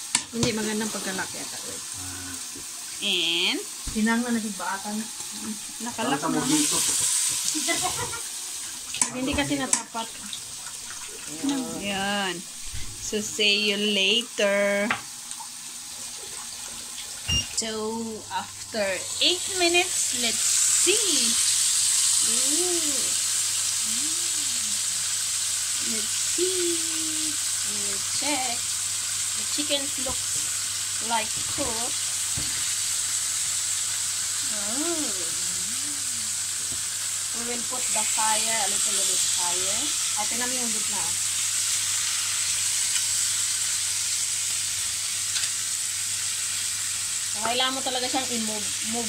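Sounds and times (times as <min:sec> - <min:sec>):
chicken sizzling in grill pan: 0:00.0 - 0:49.0.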